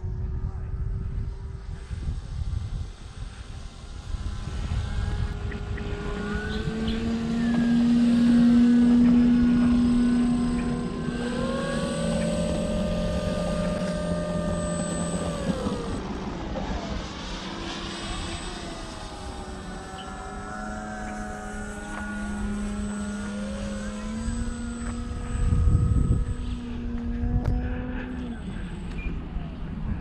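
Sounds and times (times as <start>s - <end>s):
electric motor and propeller buzzing: 0.0s - 30.0s.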